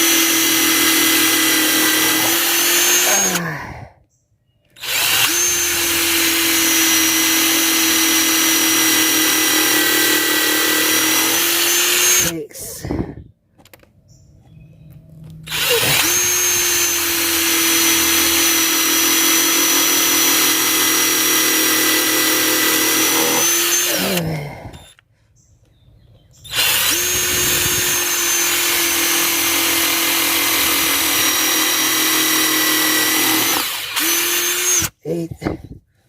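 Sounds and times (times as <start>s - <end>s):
cordless impact driver running: 0.0s - 3.4s, 4.8s - 12.4s, 15.4s - 25.0s, 26.5s - 35.0s.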